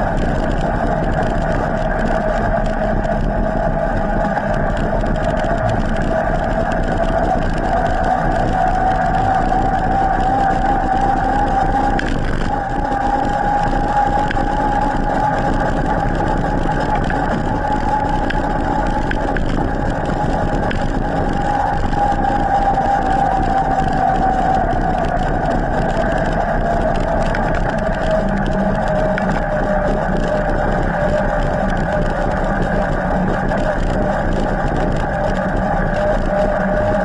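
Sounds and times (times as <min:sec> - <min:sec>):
electric bike motor whining: 0:00.0 - 0:37.0
tyre rumble and wind noise: 0:00.0 - 0:37.0.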